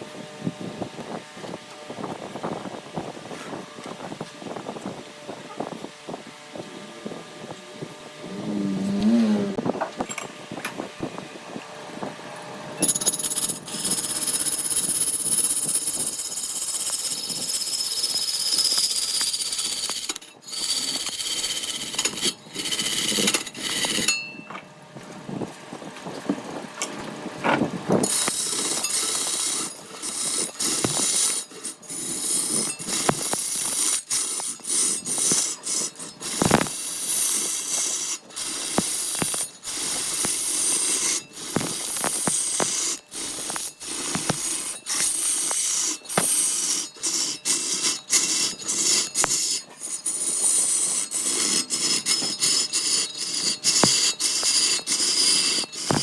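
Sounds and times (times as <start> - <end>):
power tool whining: 6.5 - 11.3, 12.6 - 24.7, 26.0 - 56.0.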